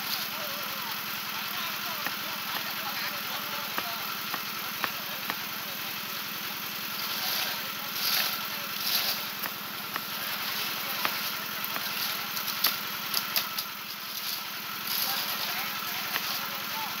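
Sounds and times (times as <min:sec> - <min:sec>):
concrete mixer engine running: 0:00.0 - 0:17.0.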